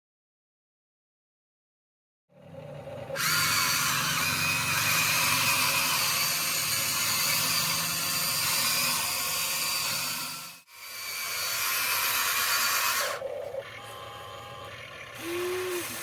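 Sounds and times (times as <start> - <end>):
electric motors whining: 2.4 - 16.0.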